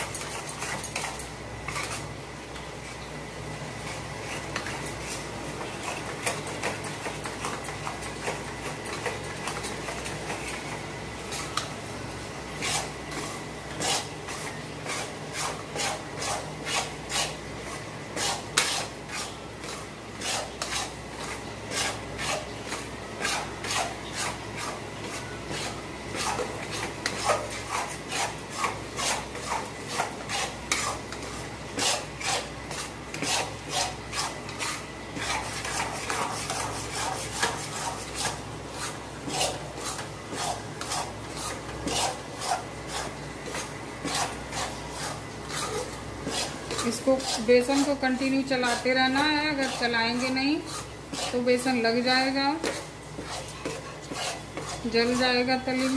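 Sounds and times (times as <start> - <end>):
metal spatula scraping pan: 0.0 - 2.2, 12.6 - 55.9.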